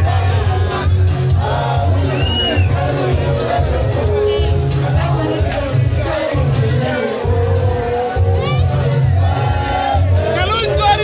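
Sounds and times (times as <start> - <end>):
music with pulsing bass beat: 0.0 - 11.0
person singing or rapping: 0.0 - 11.0.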